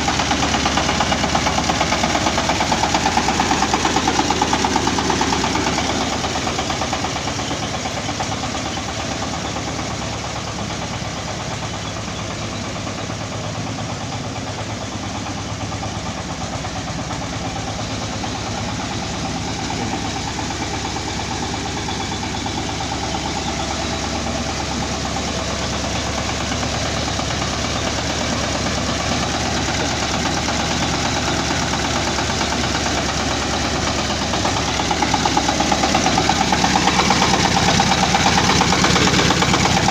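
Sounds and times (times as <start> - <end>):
harvester engine running: 0.0 - 39.9.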